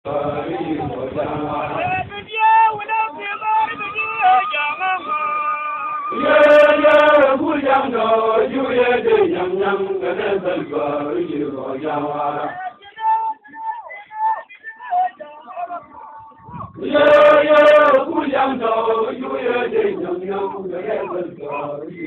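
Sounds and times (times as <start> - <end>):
men chanting: 0.1 - 22.0.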